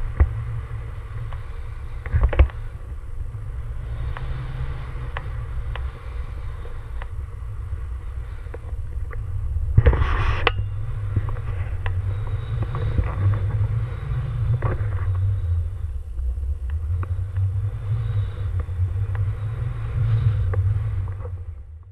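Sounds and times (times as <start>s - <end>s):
wind buffeting microphone: 0.0s - 21.8s.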